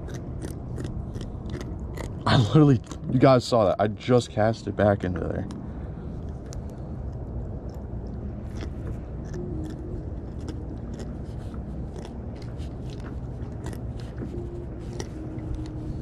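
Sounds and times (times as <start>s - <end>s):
small clicks and scratchy crunches: 0.0s - 3.2s, 6.3s - 16.0s
steady low rumble: 0.0s - 16.0s.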